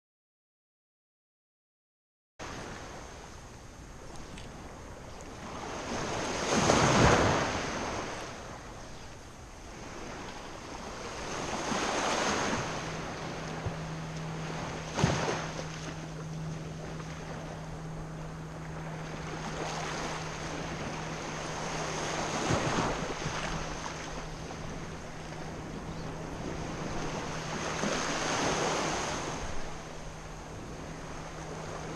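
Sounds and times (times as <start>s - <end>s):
small waves washing: 2.4s - 31.9s
steady low hum: 2.4s - 31.9s.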